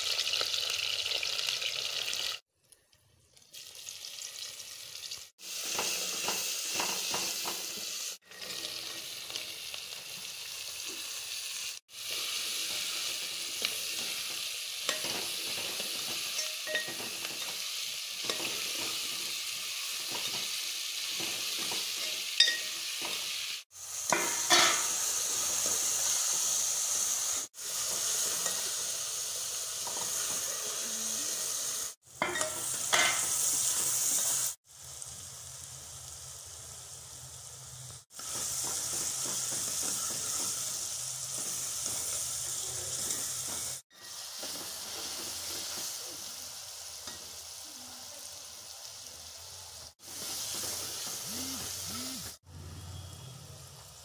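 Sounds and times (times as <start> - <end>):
vegetables sizzling in a pan: 0.0 - 2.4, 3.2 - 54.0.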